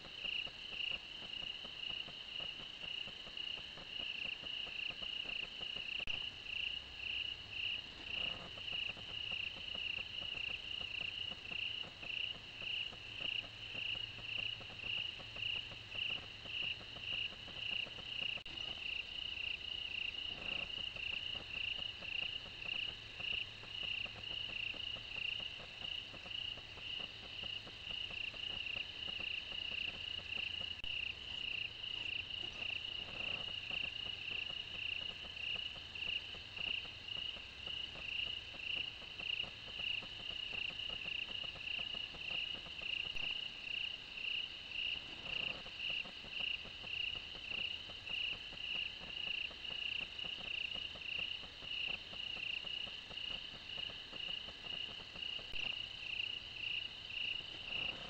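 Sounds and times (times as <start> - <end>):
night insects chirping: 0.0 - 58.0.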